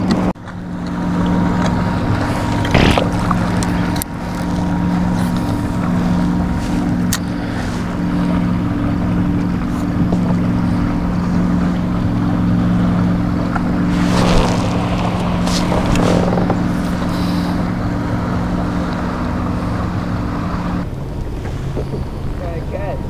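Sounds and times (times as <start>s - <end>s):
boat motor humming: 0.0s - 23.0s
water noise: 0.0s - 23.0s
wind: 0.0s - 23.0s.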